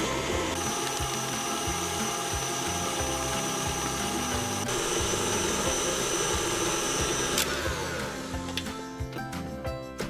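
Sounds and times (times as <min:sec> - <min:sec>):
electric mixer motor whine: 0:00.0 - 0:08.8
background music with steady beat: 0:00.0 - 0:10.0.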